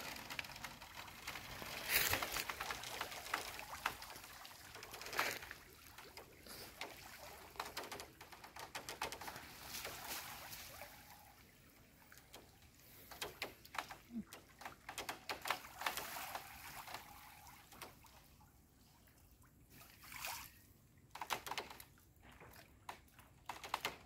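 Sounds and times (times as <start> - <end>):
water sloshing and trickling: 0.0 - 23.5.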